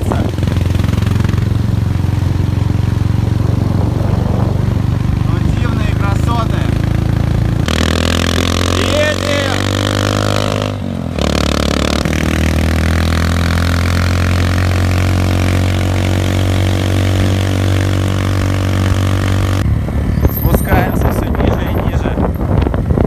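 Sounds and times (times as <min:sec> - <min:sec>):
scooter engine running: 0:00.0 - 0:23.0.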